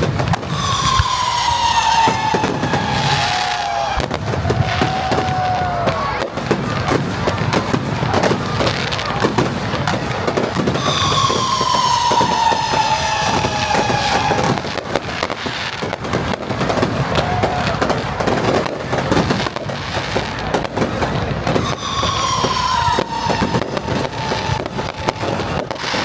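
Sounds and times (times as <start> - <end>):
fireworks crackling and popping: 0.0 - 26.0.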